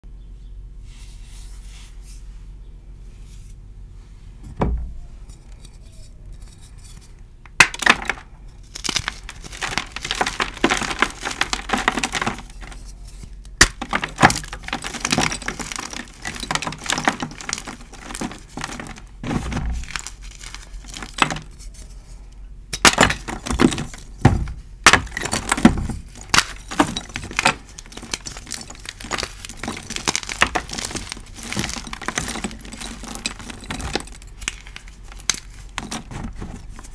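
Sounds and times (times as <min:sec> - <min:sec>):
hands crushing chalk blocks: 0:05.3 - 0:22.0, 0:22.7 - 0:36.9.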